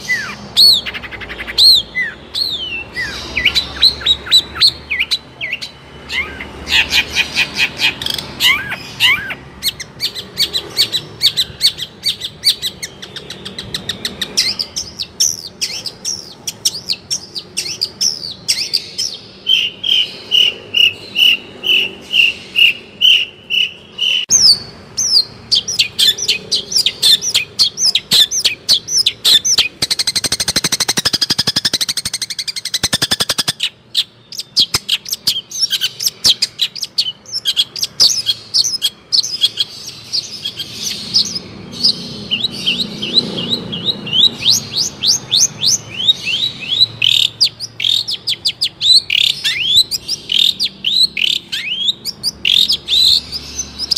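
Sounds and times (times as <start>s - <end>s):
bird chattering trill: 0.0s - 53.9s
shrike singing chirps and whistles: 0.0s - 53.9s.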